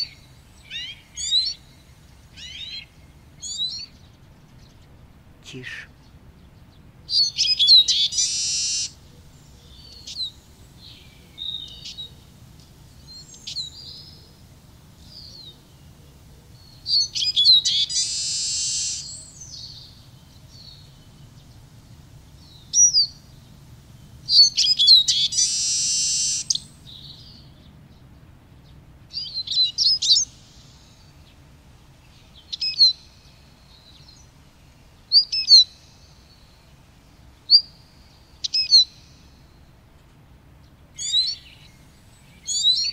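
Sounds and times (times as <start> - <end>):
bird twittering chirps: 0.0 - 27.8, 28.7 - 31.4, 32.0 - 39.7, 41.0 - 42.9.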